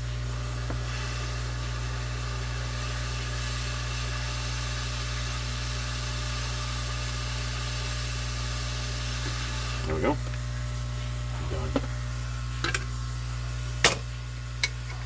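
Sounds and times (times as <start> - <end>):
hot air blower running: 0.0 - 15.0.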